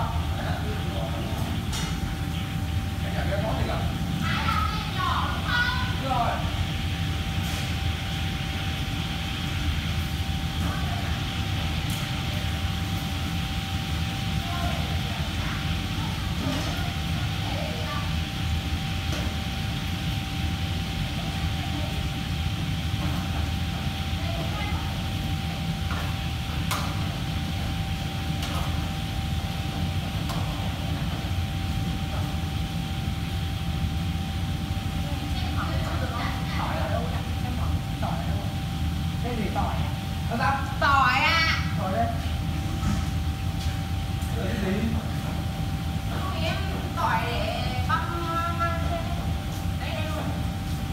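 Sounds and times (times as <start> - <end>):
thin steady whine: 0.0 - 50.9
ventilation fans droning: 0.0 - 50.9.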